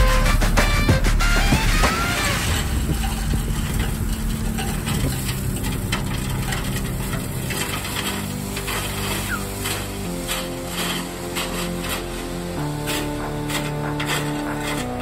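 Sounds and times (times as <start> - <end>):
diesel engine running: 0.0 - 15.0
gravel pouring and rattling: 0.1 - 15.0.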